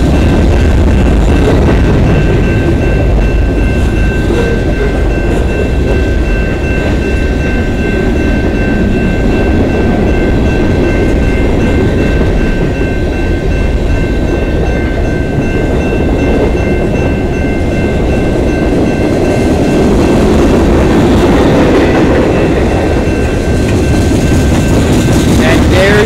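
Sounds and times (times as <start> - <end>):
steady high ringing tone: 0.0 - 26.0
train wheels rumbling on rails: 0.0 - 26.0.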